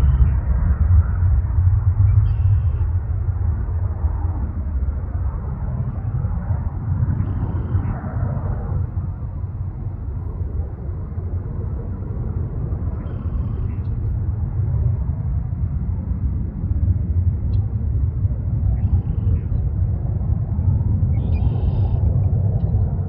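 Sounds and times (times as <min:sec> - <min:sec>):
distant jet engines rumbling: 0:00.0 - 0:23.0.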